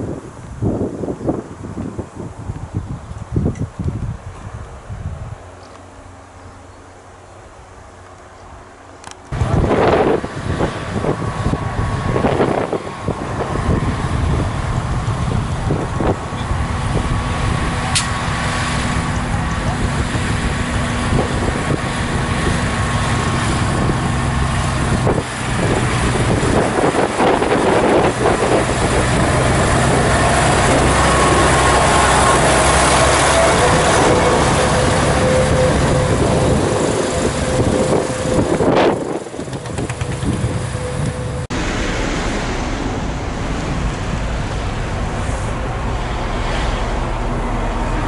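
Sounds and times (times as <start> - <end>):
vehicle running noise: 0.0 - 48.0
diesel truck driving past: 8.7 - 48.0.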